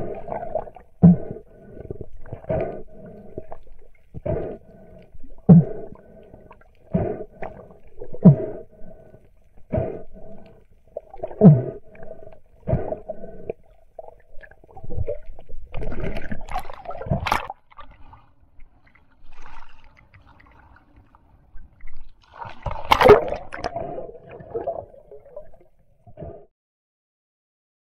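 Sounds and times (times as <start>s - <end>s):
underwater bubbling and gurgling: 0.0s - 26.5s.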